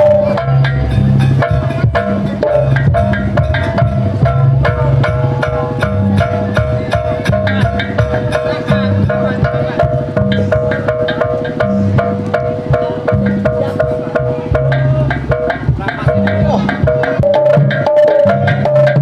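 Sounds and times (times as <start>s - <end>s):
hand drums and percussion: 0.0s - 19.0s
sustained two-note melody: 0.0s - 19.0s.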